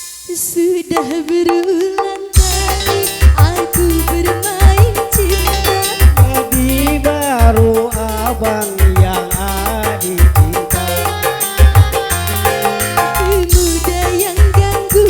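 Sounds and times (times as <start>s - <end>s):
keyboard dance music: 0.0s - 15.0s.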